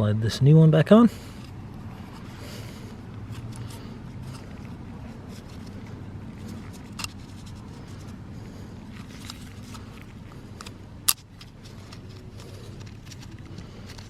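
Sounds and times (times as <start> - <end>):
low hum: 0.0 - 14.0
hands fitting rubber seal: 1.3 - 14.0.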